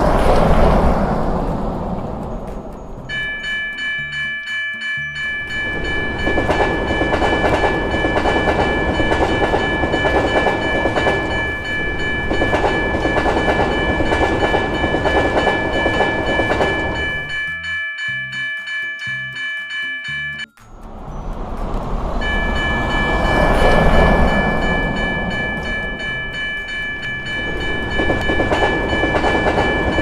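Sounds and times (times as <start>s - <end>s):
train rumble and wheel clatter: 0.0s - 4.1s, 5.2s - 17.5s, 20.8s - 30.0s
level crossing bell ringing: 2.4s - 21.3s, 22.1s - 30.0s.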